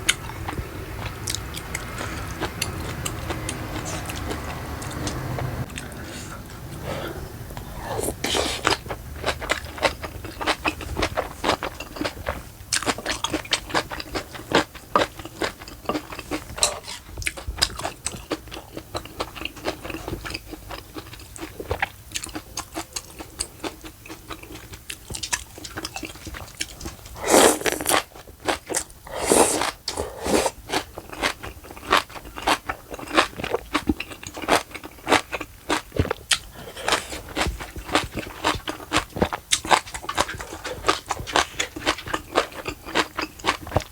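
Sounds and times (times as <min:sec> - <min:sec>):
chewing with wet clicks: 0:00.0 - 0:06.6, 0:07.6 - 0:29.0, 0:29.6 - 0:43.9
loud noisy eating sounds: 0:00.0 - 0:43.9.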